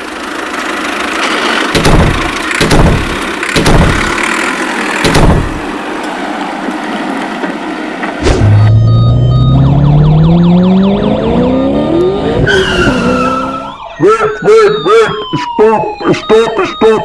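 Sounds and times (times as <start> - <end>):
engine-like noise: 0.0 - 17.0.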